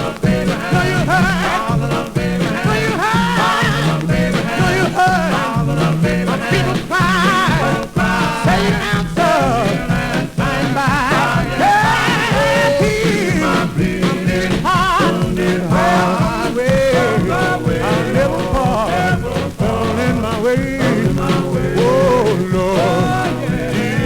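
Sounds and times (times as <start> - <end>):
record crackle: 0.0 - 24.0
vocal quartet singing: 0.0 - 24.0.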